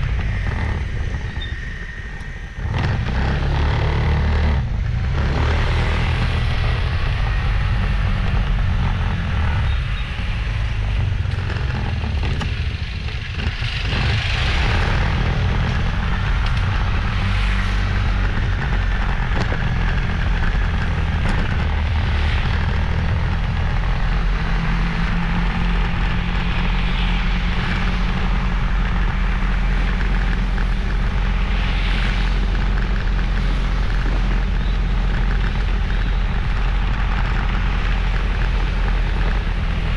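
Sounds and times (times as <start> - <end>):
motorbike engine running: 0.0 - 39.9
passing traffic: 0.0 - 39.9.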